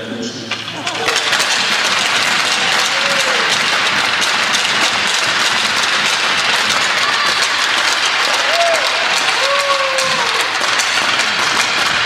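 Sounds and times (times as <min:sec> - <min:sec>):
crowd applauding: 0:00.8 - 0:12.0.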